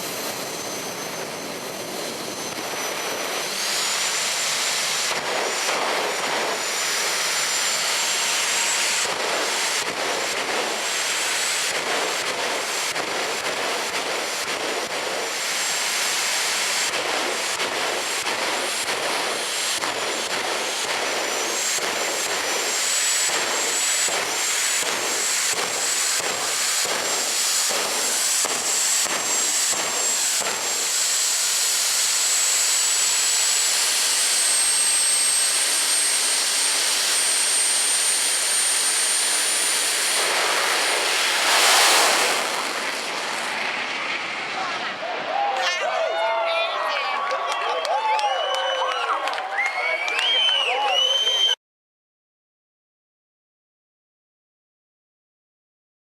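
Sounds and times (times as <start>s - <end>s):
high turbine whine: 0.0s - 45.6s
jet engine roaring: 0.0s - 48.3s.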